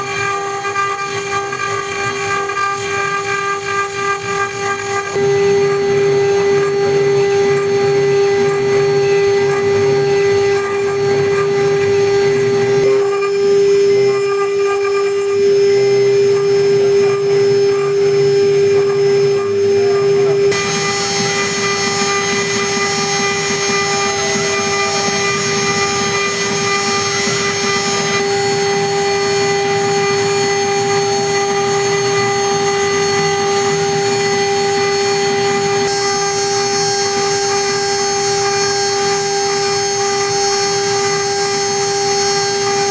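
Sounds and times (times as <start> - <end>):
end mill cutting metal: 0.0 - 42.9
milling machine spindle whine: 0.0 - 42.9.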